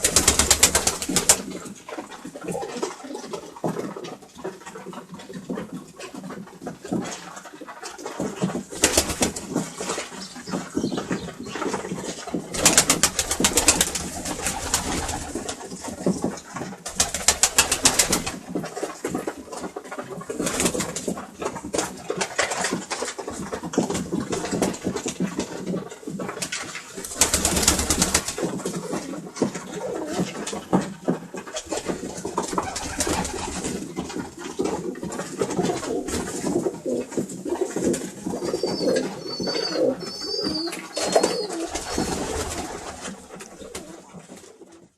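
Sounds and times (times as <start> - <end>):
pigeons cooing: 0.0 - 22.5, 26.9 - 44.9.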